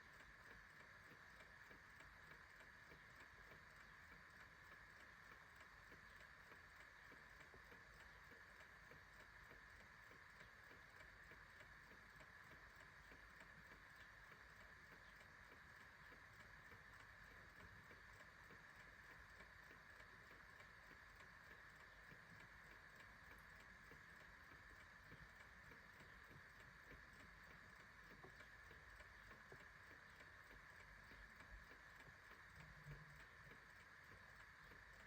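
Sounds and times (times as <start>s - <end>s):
clock ticking: 0.0s - 35.0s
steady hiss: 0.0s - 35.0s.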